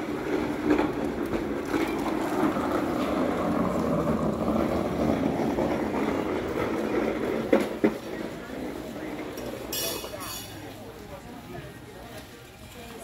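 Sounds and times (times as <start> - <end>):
cart wheels rolling on concrete: 0.0 - 13.0.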